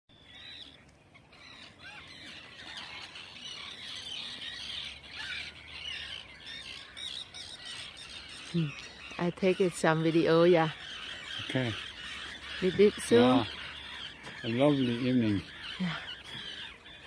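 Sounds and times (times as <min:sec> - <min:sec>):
flock of birds squawking: 0:00.1 - 0:17.0.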